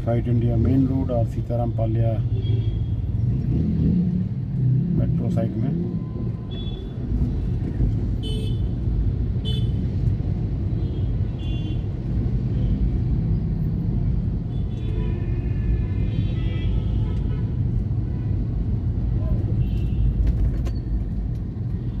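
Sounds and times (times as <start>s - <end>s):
low rumble of traffic: 0.0s - 22.0s.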